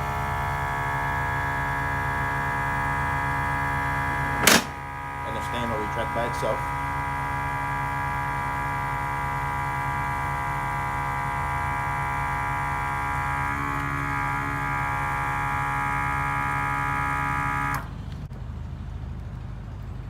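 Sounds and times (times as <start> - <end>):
air compressor electric whine: 0.0 - 18.0.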